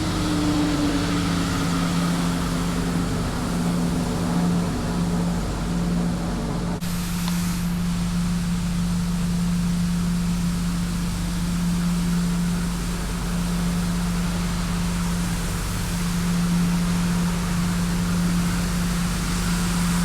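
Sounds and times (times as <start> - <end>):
constant hiss: 0.0 - 20.0
street sweeper hum: 0.0 - 20.0.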